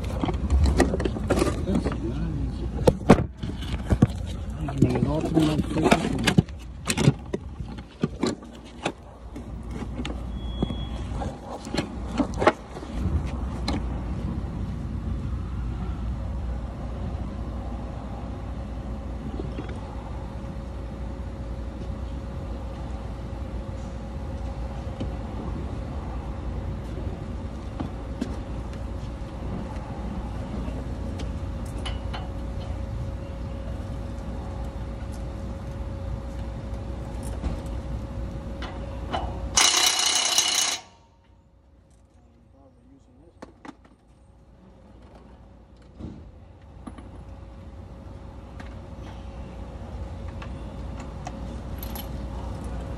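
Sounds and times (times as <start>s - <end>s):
low vehicle engine rumble: 0.0s - 39.6s, 40.5s - 52.9s.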